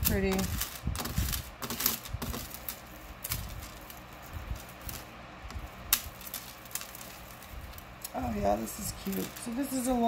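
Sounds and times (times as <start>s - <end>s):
beads and chain clicking on tray: 0.0s - 5.1s, 5.9s - 10.0s.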